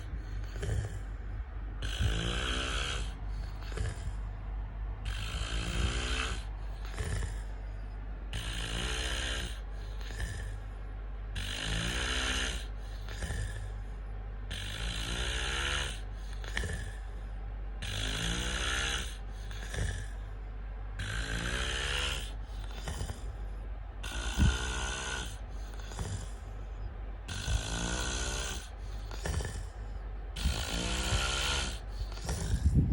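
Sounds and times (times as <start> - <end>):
man snoring: 0.0 - 1.2, 1.8 - 4.2, 5.0 - 7.6, 8.3 - 13.8, 14.5 - 17.2, 17.8 - 20.2, 21.0 - 23.4, 24.0 - 26.5, 27.3 - 32.9.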